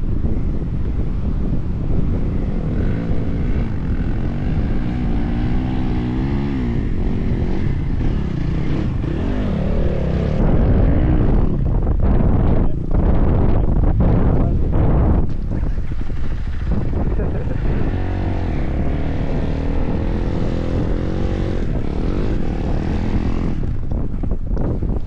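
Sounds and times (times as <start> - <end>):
wind buffeting microphone: 0.0 - 25.0
dirt bike engine revving: 1.9 - 24.1.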